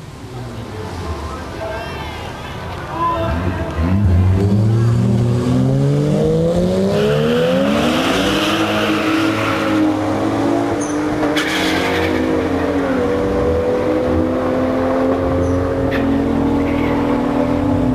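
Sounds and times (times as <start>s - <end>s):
tires screeching: 0.8s - 17.9s
race car engine revving: 3.2s - 17.9s.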